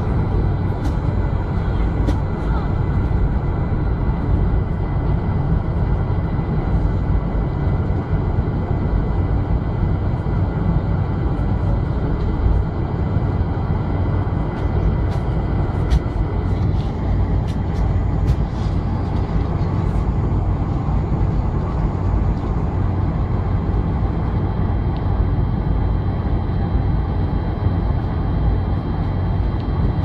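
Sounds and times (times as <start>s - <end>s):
airliner cabin rumble: 0.0s - 30.0s
low hum: 0.0s - 30.0s.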